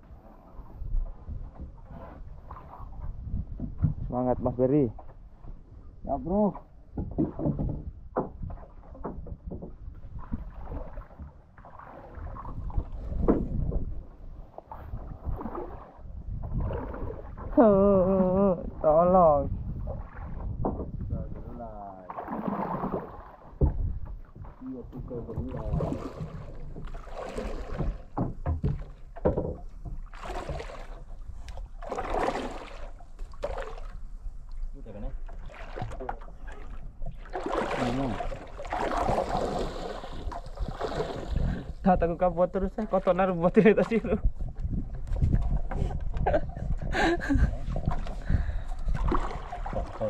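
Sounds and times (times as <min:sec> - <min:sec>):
wind buffeting microphone: 0:00.0 - 0:11.4, 0:12.0 - 0:21.8, 0:22.4 - 0:31.8, 0:33.9 - 0:50.0
water splashing against boat hull: 0:00.4 - 0:50.0.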